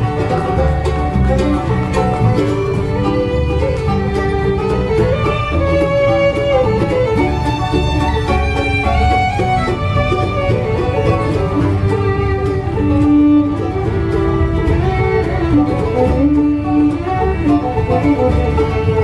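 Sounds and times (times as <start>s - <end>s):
banjo: 0.0s - 19.0s
double bass: 0.0s - 19.0s
fiddle: 0.0s - 19.0s
guitar: 0.0s - 19.0s.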